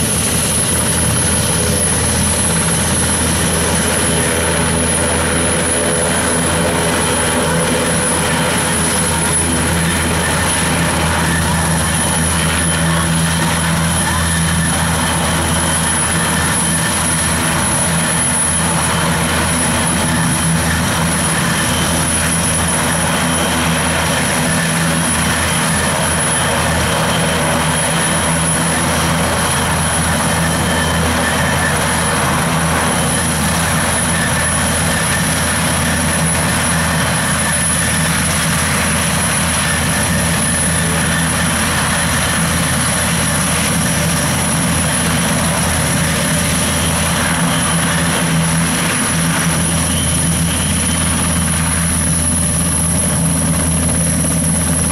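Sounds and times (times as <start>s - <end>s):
helicopter engines and rotors: 0.0s - 54.9s.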